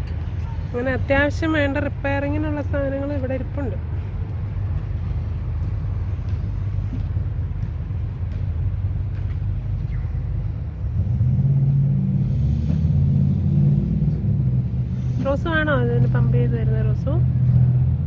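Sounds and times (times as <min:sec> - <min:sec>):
road traffic rumble: 0:00.0 - 0:18.0
steady engine hum: 0:00.0 - 0:18.0.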